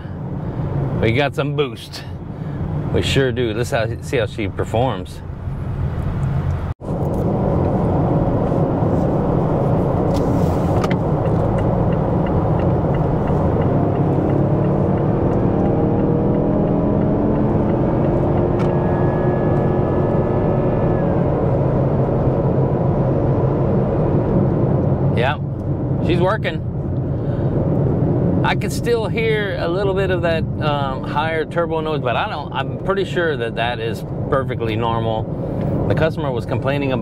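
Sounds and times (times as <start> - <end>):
faint high turbo whine: 0.0 - 37.0
road noise: 0.0 - 37.0.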